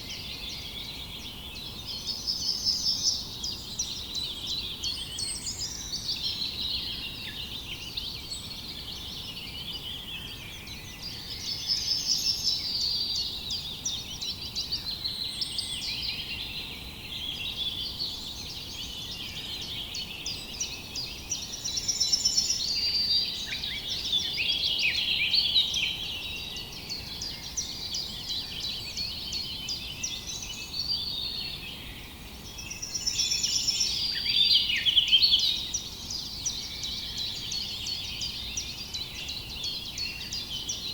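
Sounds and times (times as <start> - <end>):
faint background hiss: 0.0 - 40.9
songbirds chirping and trilling: 0.0 - 40.9.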